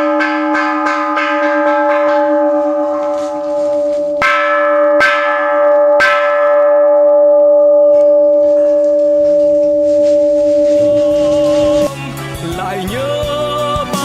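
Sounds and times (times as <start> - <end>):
deep bell ringing: 0.0 - 11.9.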